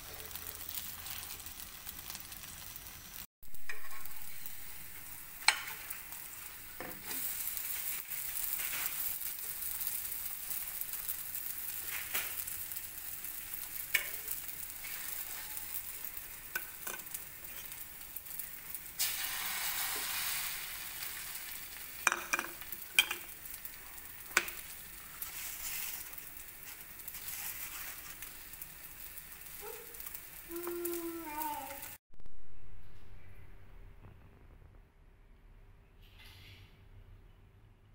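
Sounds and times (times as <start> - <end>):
food sizzling on a griddle: 0.0 - 32.0.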